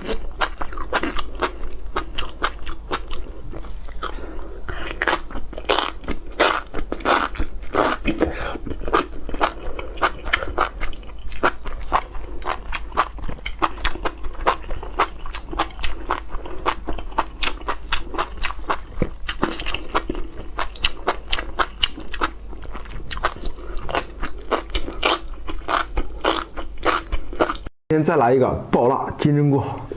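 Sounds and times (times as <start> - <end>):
chewing crunchy mushrooms: 0.0 - 27.7.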